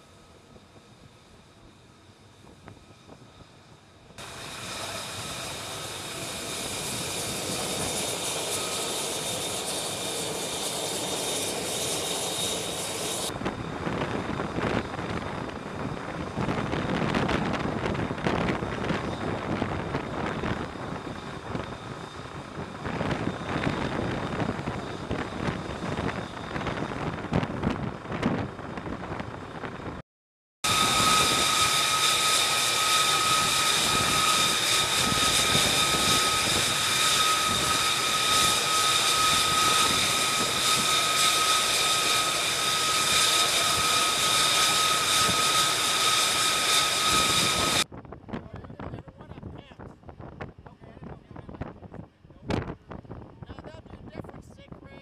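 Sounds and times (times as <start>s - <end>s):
jet engine high whine: 0.0s - 30.0s, 30.6s - 55.0s
jet exhaust rushing: 0.0s - 30.0s, 30.6s - 47.9s.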